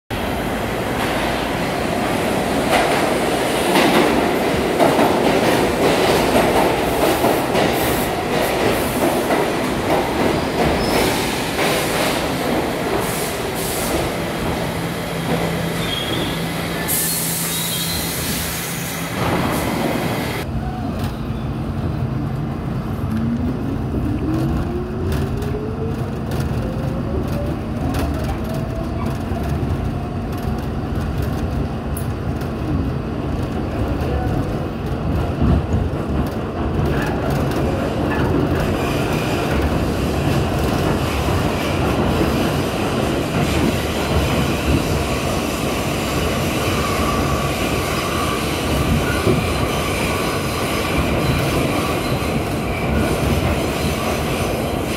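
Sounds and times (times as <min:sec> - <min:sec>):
subway train rumbling: 0:00.1 - 0:54.9.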